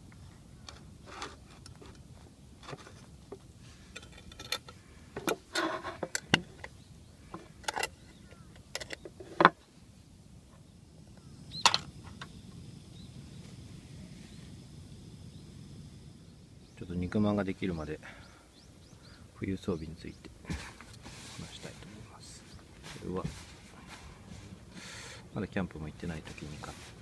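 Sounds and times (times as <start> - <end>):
low outdoor background: 0.0 - 27.0.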